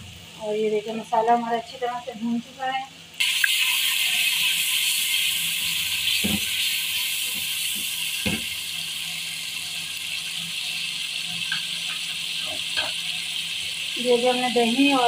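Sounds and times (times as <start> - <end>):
masala sizzling in oil: 0.0 - 15.0.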